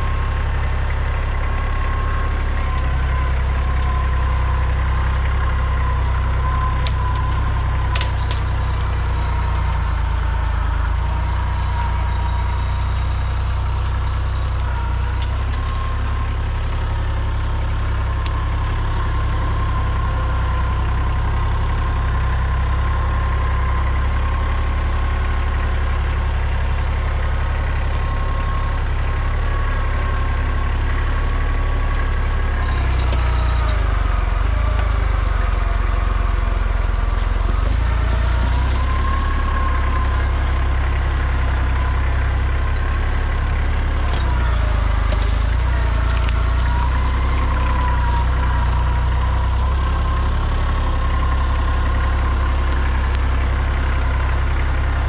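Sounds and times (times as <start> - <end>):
loader pushing into dirt: 0.0 - 55.0
tractor diesel engine under load: 0.0 - 55.0.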